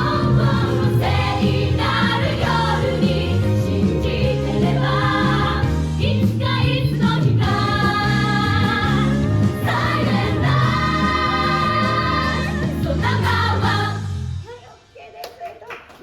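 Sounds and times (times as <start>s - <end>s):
women singing in harmony: 0.0s - 14.2s
backing music: 0.0s - 14.6s.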